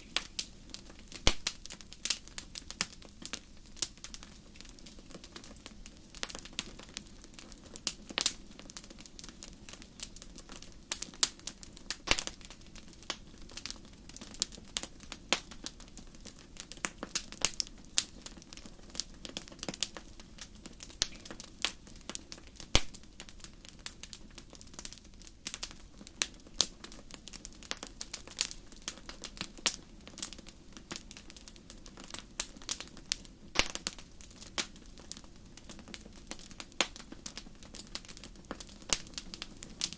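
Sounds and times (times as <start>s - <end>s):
soft hiss of flames: 0.0s - 39.9s
wood fire crackling: 0.0s - 39.9s.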